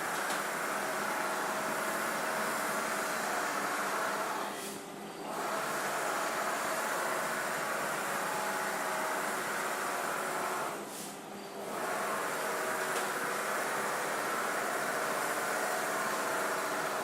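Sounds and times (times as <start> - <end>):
printer carriage whirring: 0.0 - 17.0.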